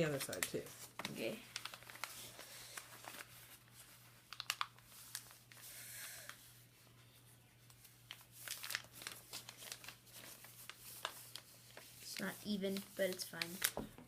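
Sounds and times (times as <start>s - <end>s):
paper folding and crackling: 0.0s - 14.0s.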